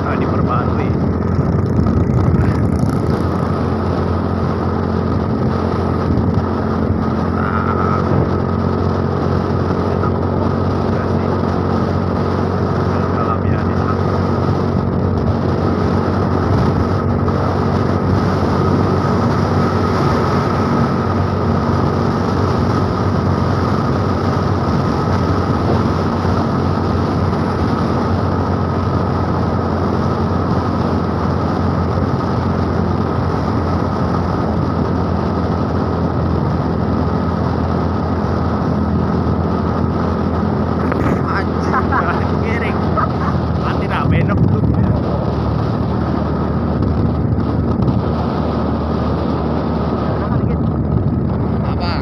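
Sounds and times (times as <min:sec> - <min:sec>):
scooter engine humming: 0:00.0 - 0:52.0
wind and road noise: 0:00.0 - 0:52.0.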